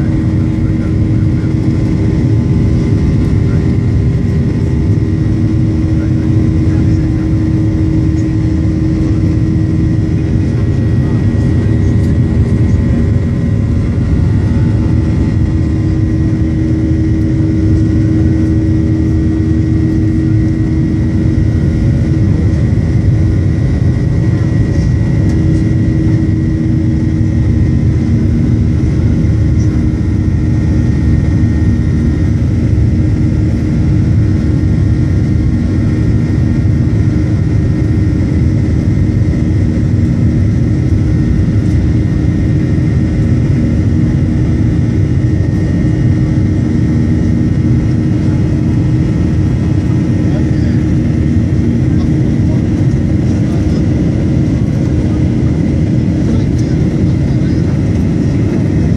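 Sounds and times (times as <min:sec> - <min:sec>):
jet engines from inside cabin: 0:00.0 - 0:58.9.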